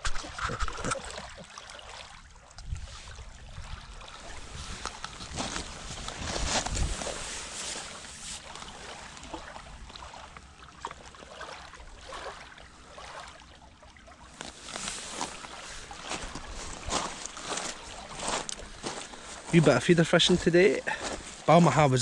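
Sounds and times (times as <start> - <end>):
waves lapping on pebble shore: 2.9 - 22.0.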